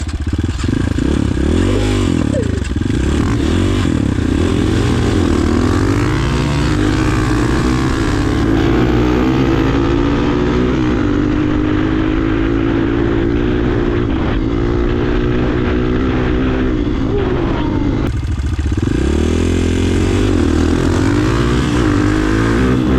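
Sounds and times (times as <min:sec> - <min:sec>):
motorcycle engines at full throttle: 0:00.0 - 0:22.9.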